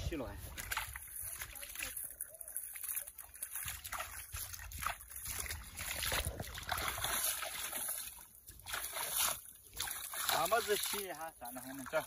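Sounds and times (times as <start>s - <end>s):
hands splashing in muddy water: 0.4s - 12.0s.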